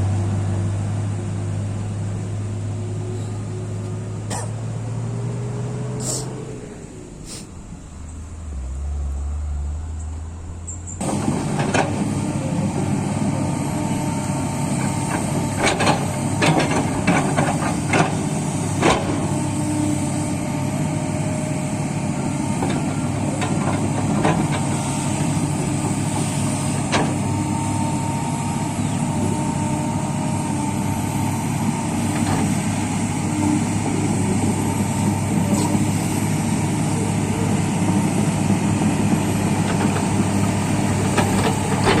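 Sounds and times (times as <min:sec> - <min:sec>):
heavy diesel machinery running: 0:00.0 - 0:42.0.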